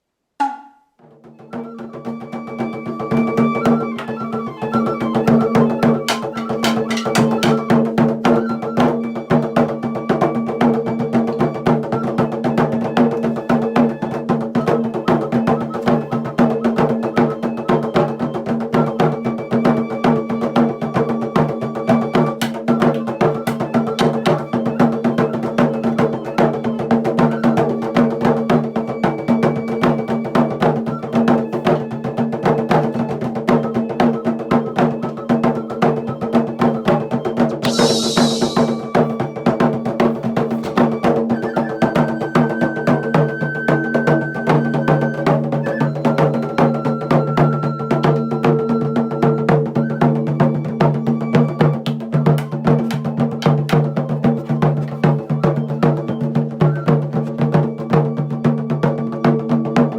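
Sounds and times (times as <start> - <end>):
wood-block and drum strokes: 0.4 - 59.9.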